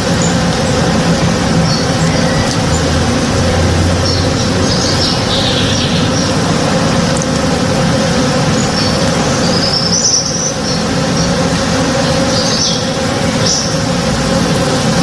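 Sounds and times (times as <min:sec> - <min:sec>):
birds chirping: 0:00.0 - 0:15.0
honey bees buzzing: 0:00.0 - 0:15.0.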